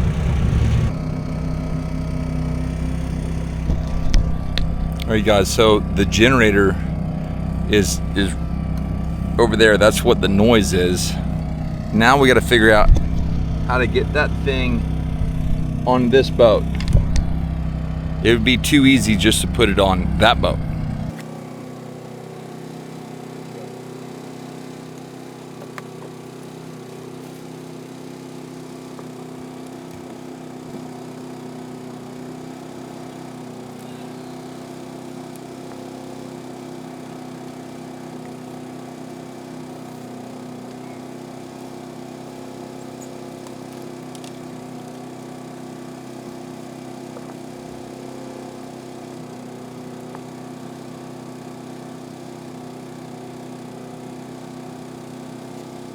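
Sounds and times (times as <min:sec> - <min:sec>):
generator engine running: 0:00.0 - 0:55.9.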